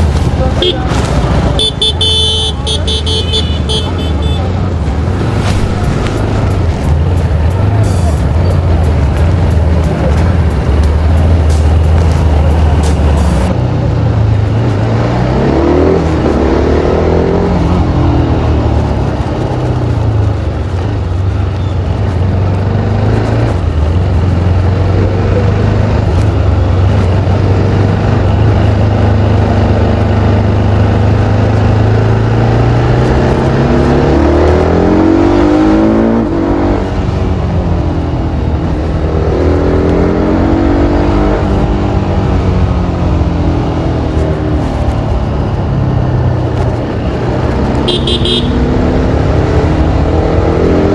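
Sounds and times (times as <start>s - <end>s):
motorcycle engine in traffic: 0.0s - 50.9s.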